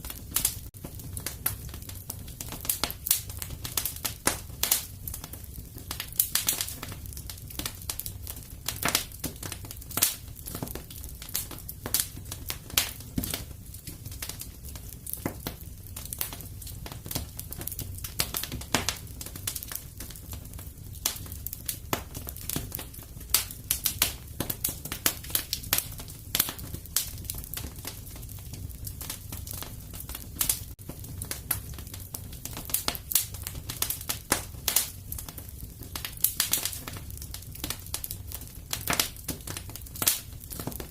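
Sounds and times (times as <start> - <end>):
fireplace fire crackling and popping: 0.0 - 40.9.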